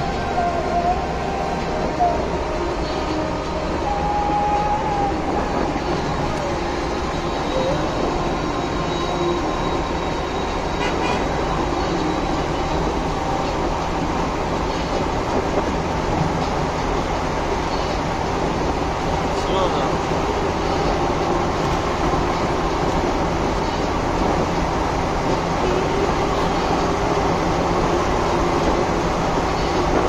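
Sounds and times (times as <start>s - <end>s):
tyre and wind noise in car: 0.0s - 9.0s, 11.1s - 30.0s.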